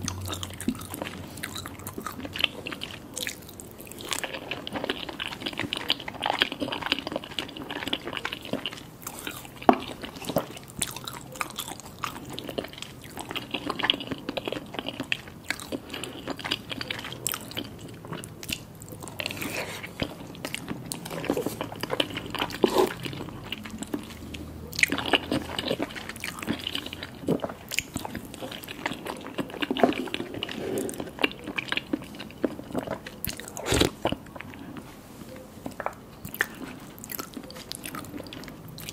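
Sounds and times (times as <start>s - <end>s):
biting and chewing: 0.0s - 34.9s, 35.6s - 38.9s.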